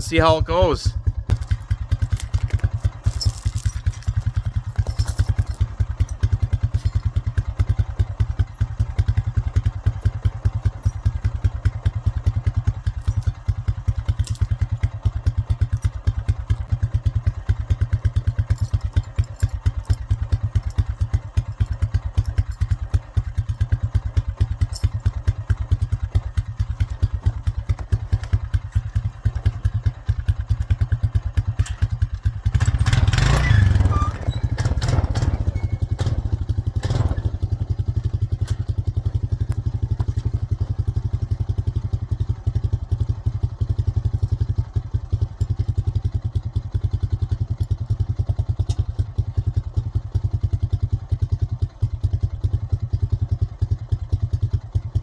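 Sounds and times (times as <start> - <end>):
quad engine running: 0.0 - 51.4.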